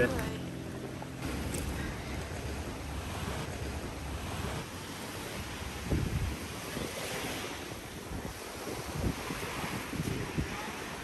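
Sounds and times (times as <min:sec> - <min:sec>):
wind buffeting microphone: 0:00.0 - 0:11.0
small waves washing onto sand: 0:01.2 - 0:11.0.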